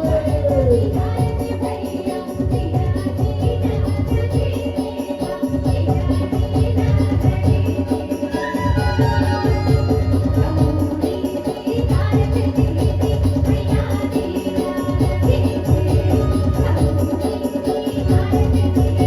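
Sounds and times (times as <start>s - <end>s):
drums keeping steady beat: 0.0s - 19.0s.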